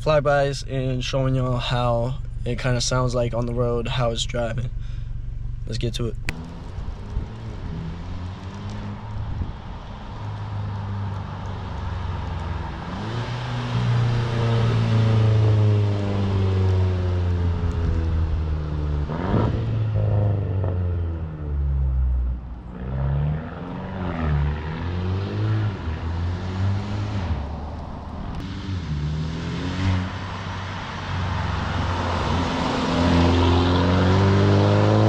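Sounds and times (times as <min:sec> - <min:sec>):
car engine revving through gears: 0:06.2 - 0:35.0.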